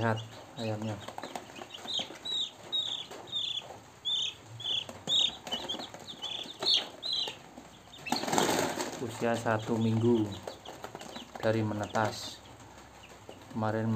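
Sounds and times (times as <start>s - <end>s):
chicks peeping: 0.0s - 13.9s
rustling: 0.0s - 13.9s.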